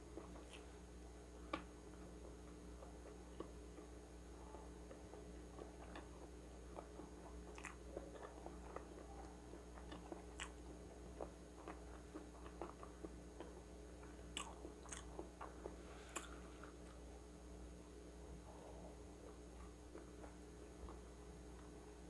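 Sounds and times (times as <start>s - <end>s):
person chewing food: 0.0s - 17.2s, 18.2s - 21.8s.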